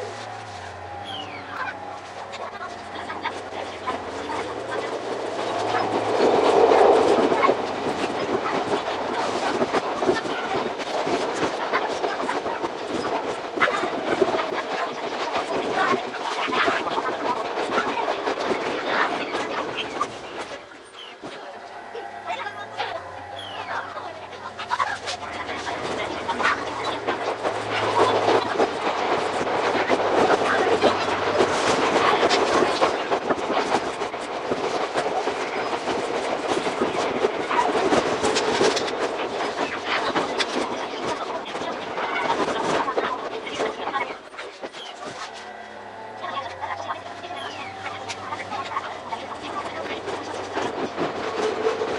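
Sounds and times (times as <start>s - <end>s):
train wheels clattering over rails: 0.0s - 51.9s.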